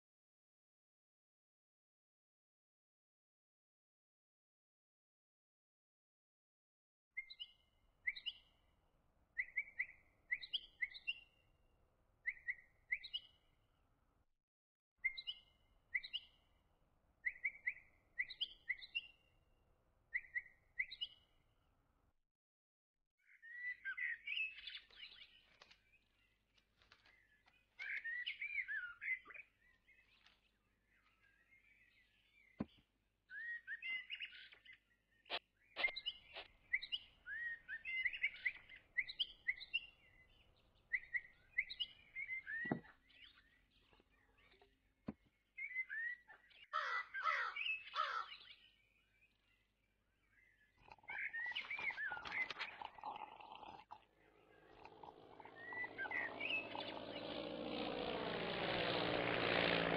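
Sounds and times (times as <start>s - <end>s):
birds chirping and twittering: 7.2s - 11.6s, 12.2s - 13.7s, 15.0s - 19.4s, 20.1s - 21.4s, 23.2s - 59.9s.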